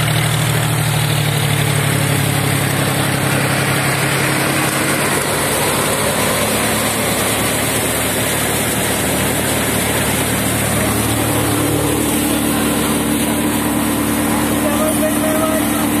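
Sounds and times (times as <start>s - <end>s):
low engine hum: 0.0s - 16.0s
thresher drum and fans din: 0.0s - 16.0s.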